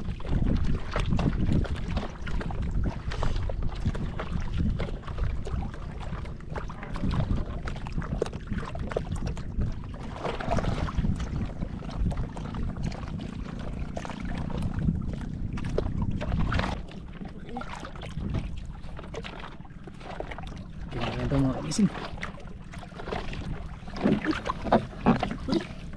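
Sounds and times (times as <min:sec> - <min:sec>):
water lapping against boat hull: 0:00.0 - 0:25.9
wind buffeting microphone: 0:00.0 - 0:25.9.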